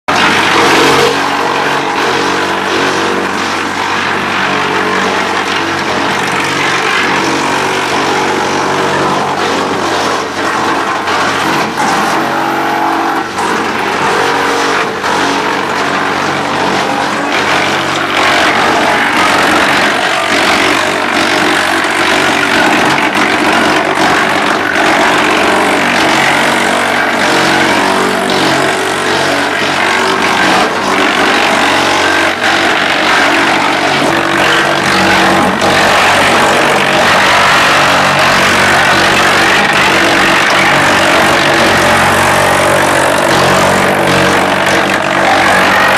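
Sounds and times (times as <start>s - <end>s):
wood chipper machine drone: 0.0s - 45.9s.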